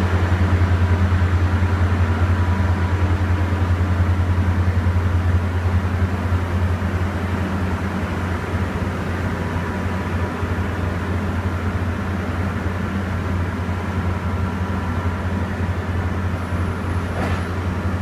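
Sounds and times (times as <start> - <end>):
electric locomotive humming: 0.0 - 18.0.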